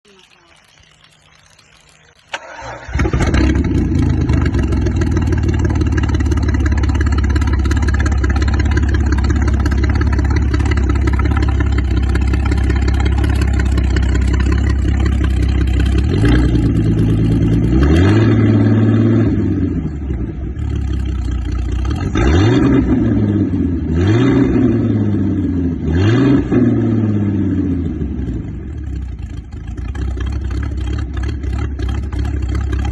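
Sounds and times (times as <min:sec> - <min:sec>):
boat engine starting and revving: 0:02.3 - 0:32.9.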